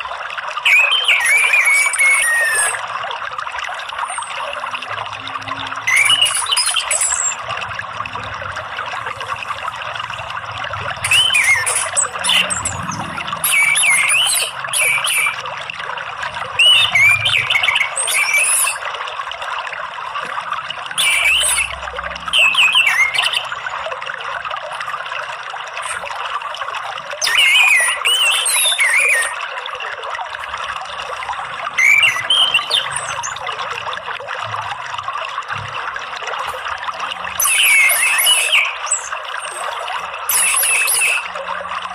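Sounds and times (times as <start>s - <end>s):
running water trickling: 0.0s - 41.9s.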